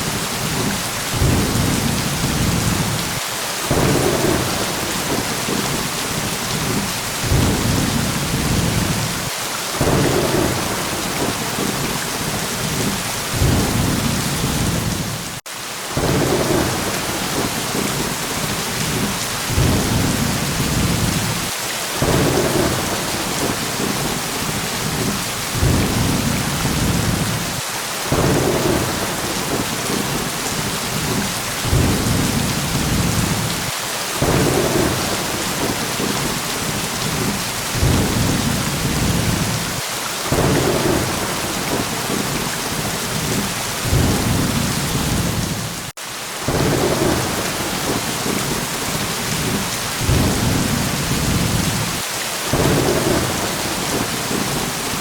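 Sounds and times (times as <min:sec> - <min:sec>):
steady rain hissing: 0:00.0 - 0:55.0
low rolls of thunder: 0:00.4 - 0:09.2, 0:09.8 - 0:15.4, 0:16.0 - 0:45.9, 0:46.5 - 0:54.7.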